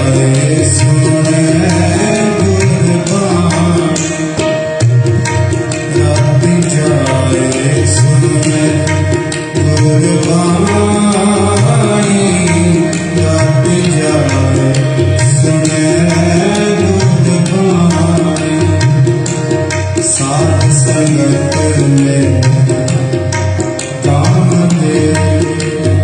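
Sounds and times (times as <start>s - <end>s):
harmonium reed chords: 0.0s - 26.0s
tabla drum strokes: 0.0s - 26.0s.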